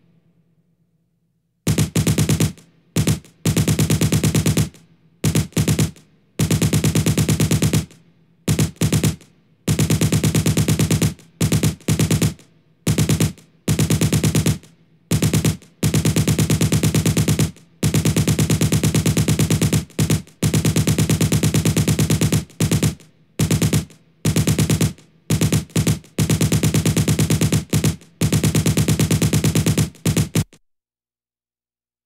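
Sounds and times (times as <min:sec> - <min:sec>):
machine-gun fire bursts: 0:01.7 - 0:30.6.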